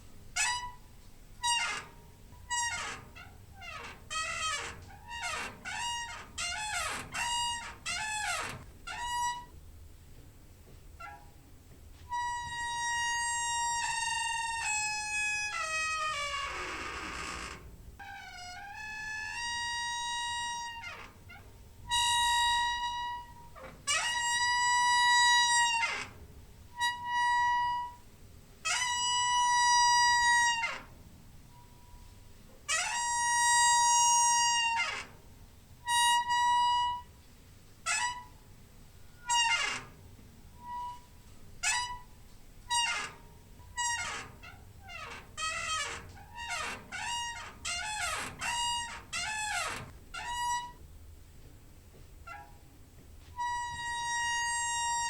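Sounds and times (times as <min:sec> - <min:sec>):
door hinge squeaking: 0:00.3 - 0:09.6, 0:11.0 - 0:11.5, 0:12.1 - 0:28.1, 0:28.7 - 0:32.1, 0:32.7 - 0:35.2, 0:35.8 - 0:37.2, 0:37.9 - 0:50.9, 0:52.2 - 0:52.7, 0:53.4 - 0:55.0.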